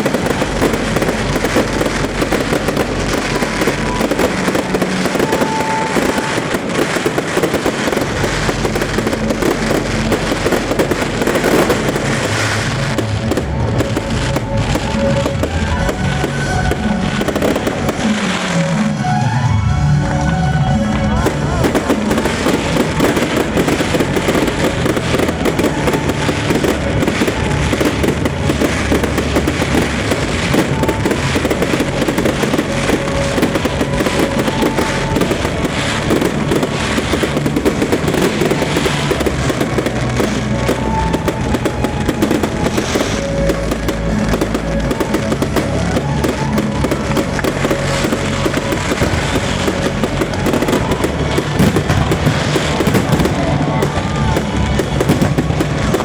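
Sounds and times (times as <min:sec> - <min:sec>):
fireworks bursting and crackling: 0:00.0 - 0:56.0
loud music with bass line: 0:05.9 - 0:56.0.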